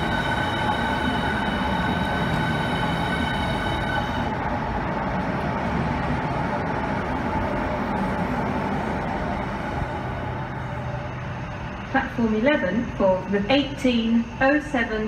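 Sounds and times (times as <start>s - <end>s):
high steady whine: 0.0s - 15.0s
train running noise: 0.0s - 15.0s.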